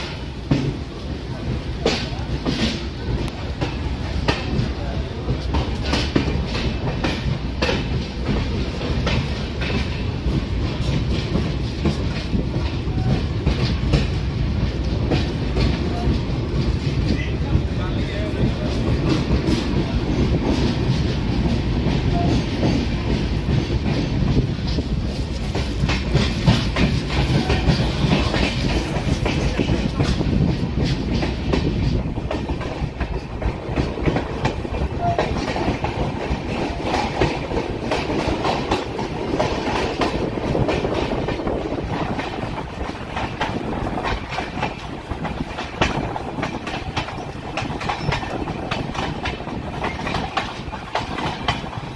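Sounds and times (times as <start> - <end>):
train wheels clattering over rails: 0.0 - 51.9.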